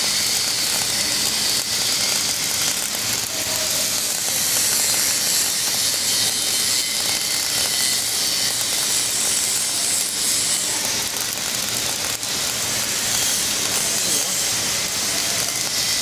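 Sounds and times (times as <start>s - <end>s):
welding arc hissing: 0.0s - 16.0s.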